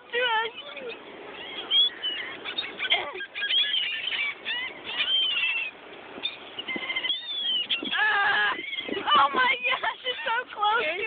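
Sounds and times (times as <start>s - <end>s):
seagulls squawking: 0.2s - 11.0s.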